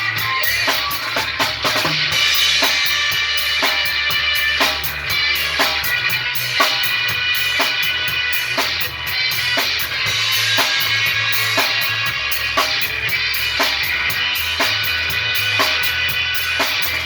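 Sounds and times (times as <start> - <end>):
bass line: 0.0 - 17.0
drum kit beat: 0.0 - 17.0
instrumental rock music: 0.0 - 17.0.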